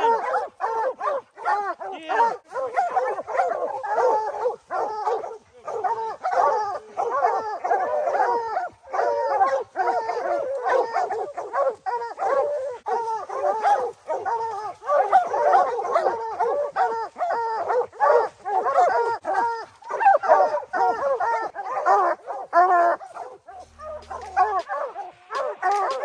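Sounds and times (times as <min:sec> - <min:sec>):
hounds baying and barking: 0:00.0 - 0:26.0.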